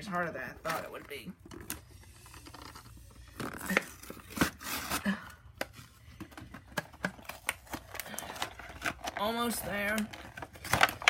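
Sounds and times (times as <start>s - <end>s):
plastic and cardboard crinkling: 0.0s - 11.0s.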